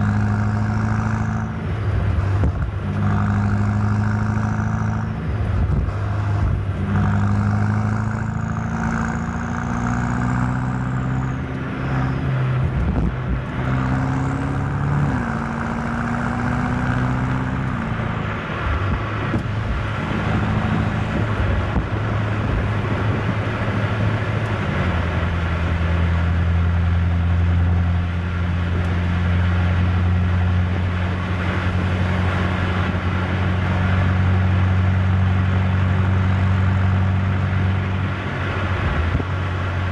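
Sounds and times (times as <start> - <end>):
car engine driving through gears: 0.0 - 39.9.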